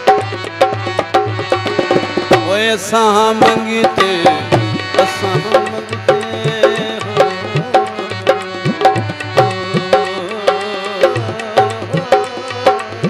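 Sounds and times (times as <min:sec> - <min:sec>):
held melody: 0:00.0 - 0:13.0
tabla played by hand: 0:00.0 - 0:13.0.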